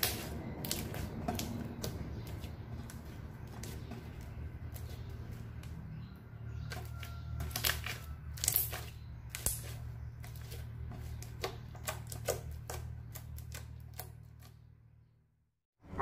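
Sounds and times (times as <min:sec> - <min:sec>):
slime kneaded by hand: 0:00.0 - 0:06.0, 0:06.6 - 0:14.6.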